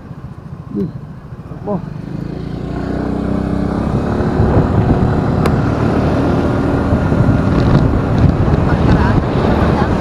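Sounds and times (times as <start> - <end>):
road and wind rumble: 0.0 - 10.0
motorcycle engine running: 1.2 - 10.0.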